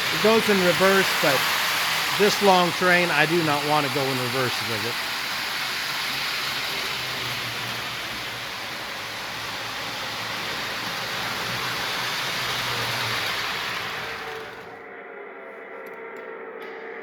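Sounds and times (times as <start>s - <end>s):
model train wheels on rails: 0.0s - 14.8s.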